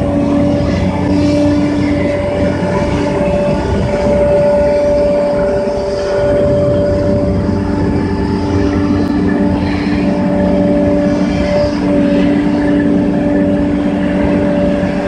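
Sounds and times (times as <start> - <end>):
excavator diesel drone: 0.0 - 15.0
held whine: 0.0 - 15.0.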